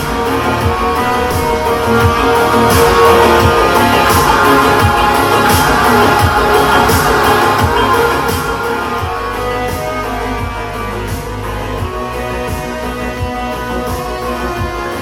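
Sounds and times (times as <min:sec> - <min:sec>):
rock music over speaker: 0:00.0 - 0:15.0.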